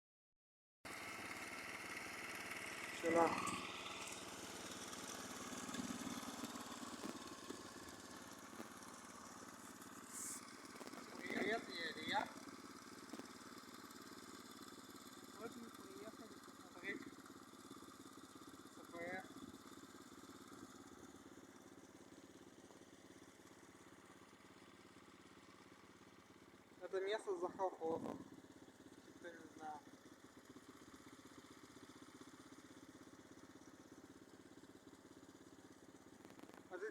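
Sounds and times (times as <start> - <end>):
moped engine idling: 0.9 - 36.9.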